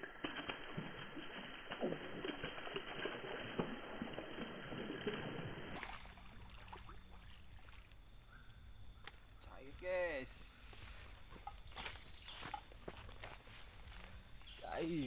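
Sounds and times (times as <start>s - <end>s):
fish thrashing and splashing: 0.0s - 8.2s, 10.3s - 15.0s.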